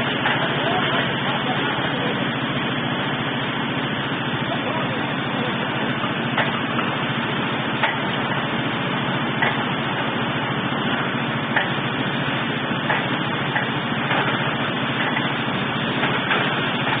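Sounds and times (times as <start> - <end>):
diesel drilling rig running: 0.0 - 17.0.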